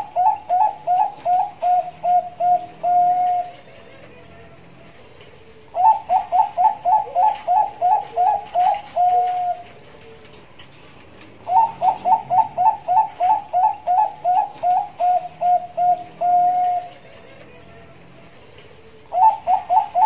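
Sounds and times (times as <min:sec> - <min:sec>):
dove cooing song: 0:00.0 - 0:20.0.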